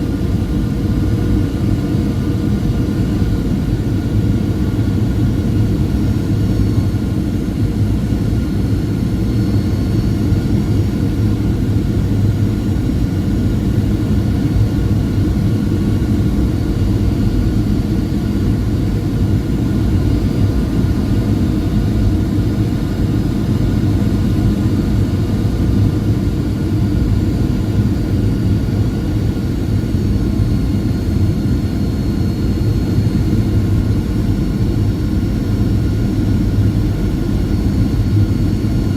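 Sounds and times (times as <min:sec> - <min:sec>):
jet engine and airflow roar: 0:00.0 - 0:38.9.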